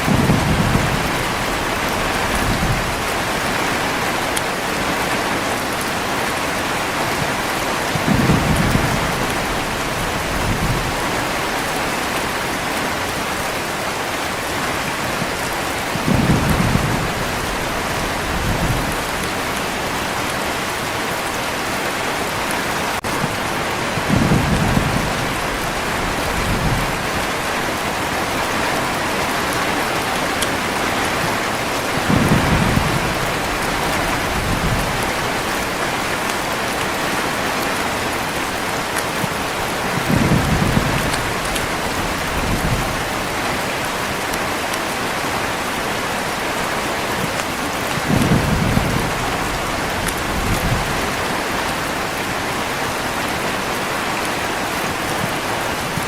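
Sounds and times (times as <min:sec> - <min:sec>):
thunder rumbling: 0:00.0 - 0:13.5, 0:14.4 - 0:21.3, 0:22.8 - 0:52.5
heavy rain: 0:00.0 - 0:56.0.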